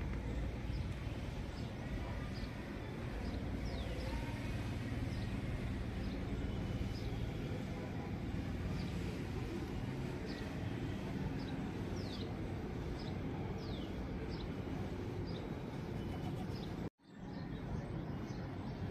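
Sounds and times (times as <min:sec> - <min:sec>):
outdoor background noise: 0:00.0 - 0:18.9.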